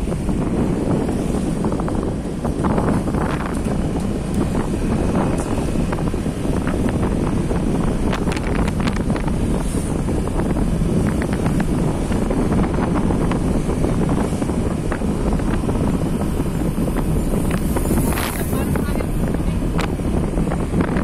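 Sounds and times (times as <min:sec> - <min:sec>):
low rumble of moving vehicle: 0:00.0 - 0:21.0
wind buffeting microphone: 0:00.0 - 0:21.0.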